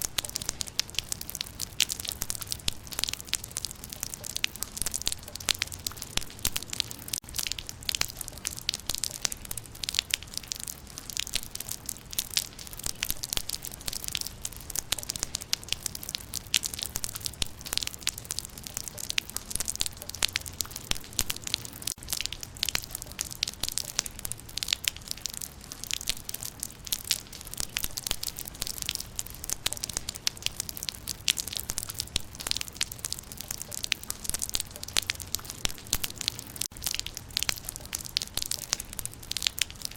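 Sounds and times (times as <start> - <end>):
raindrops pattering on leaves: 0.0 - 39.9.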